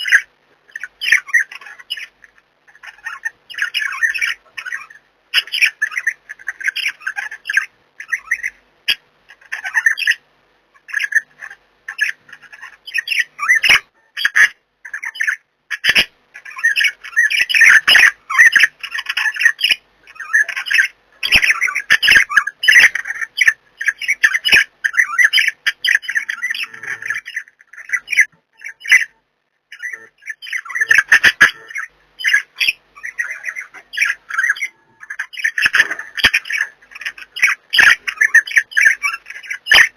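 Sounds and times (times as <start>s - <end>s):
budgies chattering and squawking: 0.0s - 10.2s, 10.8s - 39.9s.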